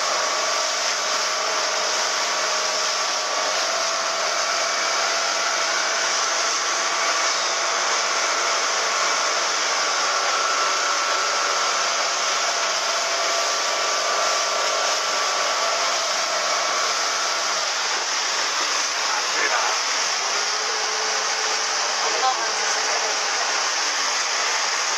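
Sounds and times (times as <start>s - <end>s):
motorboat engine at speed: 0.0s - 24.9s.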